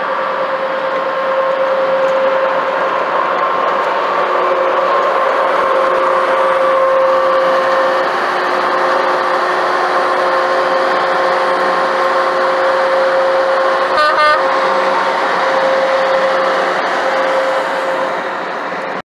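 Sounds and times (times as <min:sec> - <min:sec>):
road and tyre noise: 0:00.0 - 0:19.0
truck engine hum: 0:00.0 - 0:19.0.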